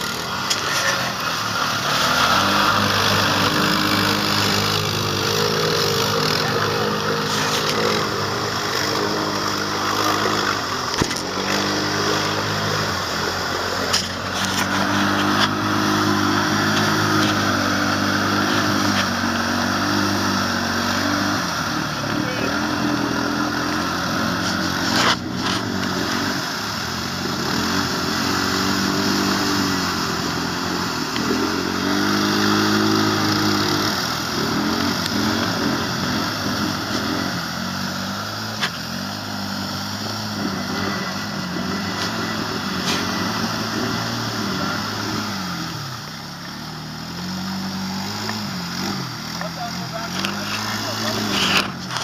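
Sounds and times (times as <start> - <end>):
quad bike engine revving: 0.0 - 52.0.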